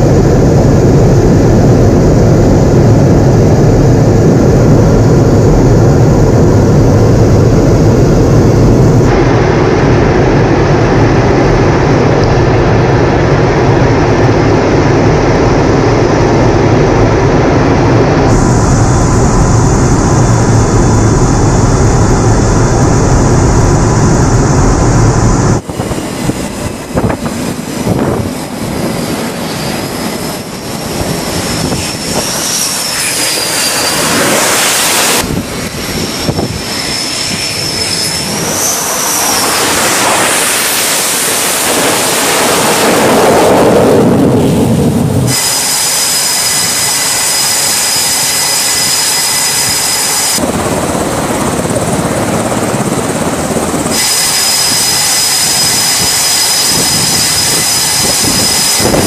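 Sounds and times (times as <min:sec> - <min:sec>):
jet engines rumbling: 0:00.0 - 0:59.0
jet turbine whine: 0:00.0 - 0:59.0.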